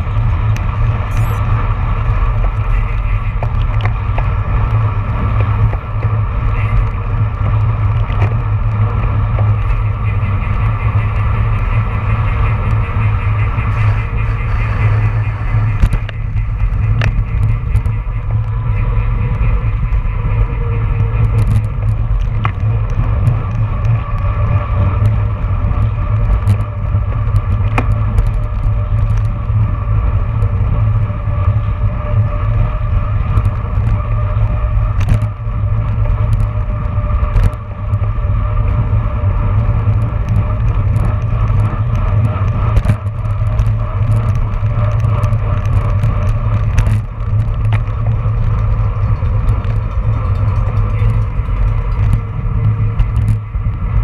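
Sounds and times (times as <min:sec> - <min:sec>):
chain and tyres humming: 0:00.0 - 0:54.0
road rumble: 0:00.0 - 0:54.0
sharp clicks and rattles: 0:00.0 - 0:54.0
wind buffeting: 0:00.0 - 0:54.0.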